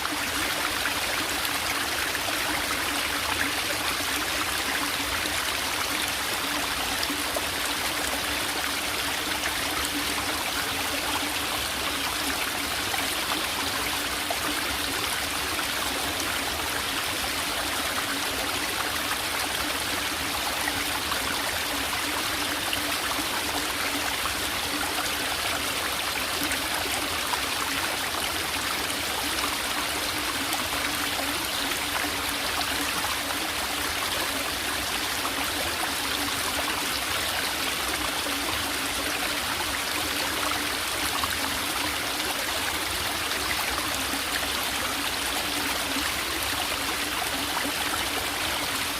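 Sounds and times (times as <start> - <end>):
stream trickling: 0.0 - 48.9.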